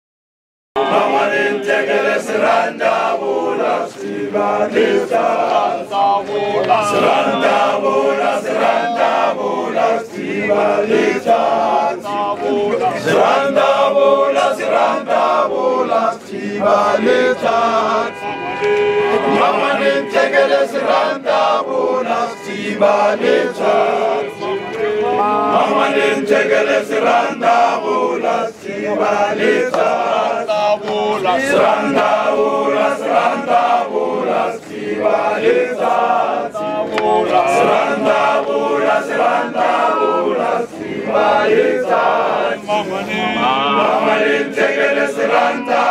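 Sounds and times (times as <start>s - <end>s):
men's choir chanting: 0.8s - 45.9s.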